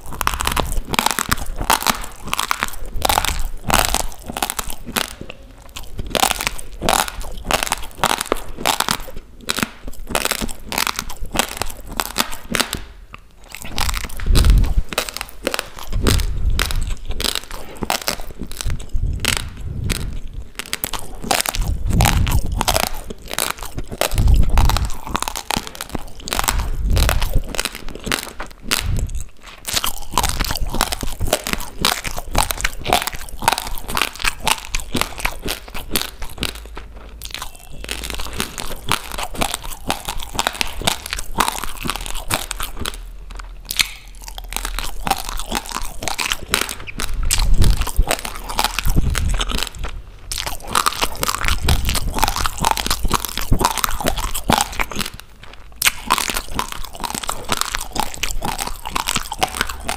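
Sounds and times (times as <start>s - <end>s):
crunching raw rice: 0.0s - 59.9s.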